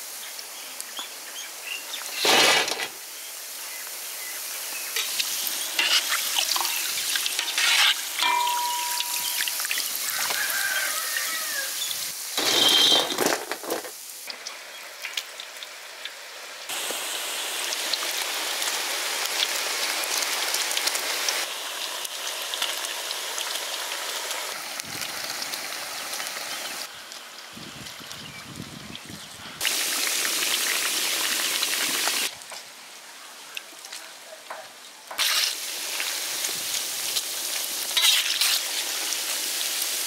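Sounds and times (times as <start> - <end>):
food deep-frying in hot oil: 0.0 - 32.7, 33.5 - 40.0.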